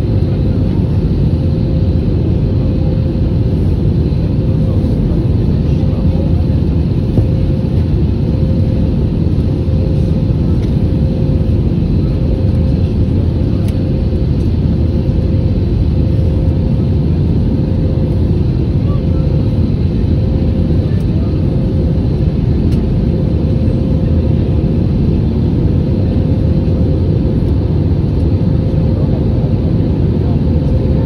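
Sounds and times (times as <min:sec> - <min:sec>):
jet engine cabin roar: 0:00.0 - 0:31.0.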